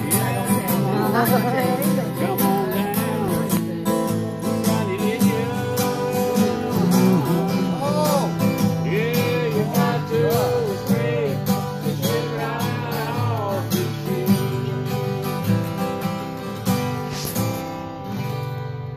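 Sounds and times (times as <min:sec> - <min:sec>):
person singing: 0:00.0 - 0:15.4
acoustic guitars strumming: 0:00.0 - 0:18.9.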